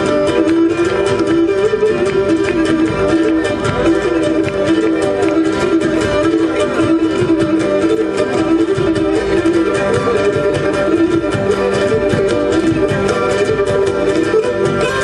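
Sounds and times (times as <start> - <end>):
bowed fiddle melody: 0.0 - 15.0
strummed string accompaniment: 0.0 - 15.0.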